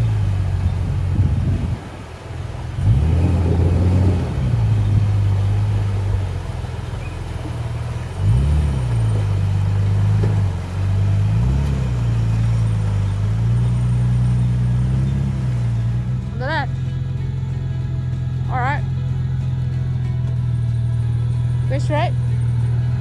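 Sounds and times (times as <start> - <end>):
vehicle engine revving: 0.0 - 23.0
water rushing: 0.0 - 23.0.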